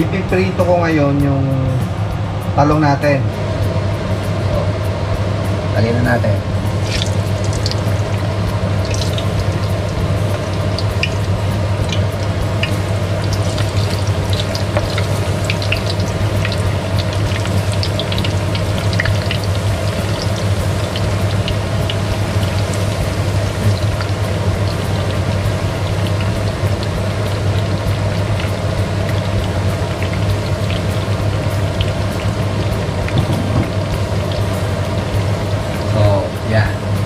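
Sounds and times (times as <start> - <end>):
steady low hum: 0.0 - 37.0
eggplant sizzling in oil: 3.4 - 37.0.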